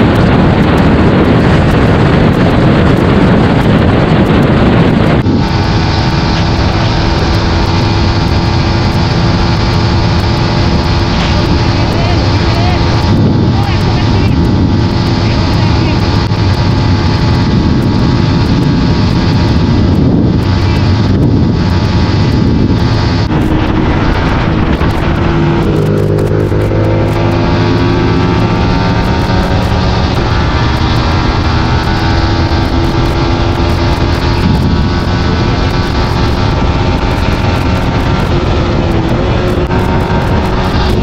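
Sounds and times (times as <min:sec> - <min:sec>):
motorcycle engine at speed: 0:00.0 - 0:41.0
wind rush on microphone: 0:00.0 - 0:41.0.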